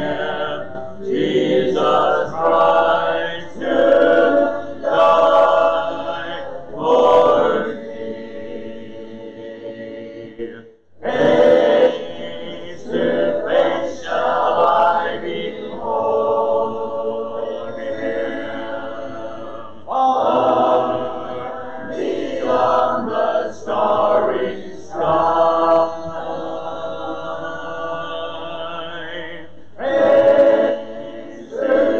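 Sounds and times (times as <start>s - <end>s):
congregation singing a hymn: 0.0s - 31.9s.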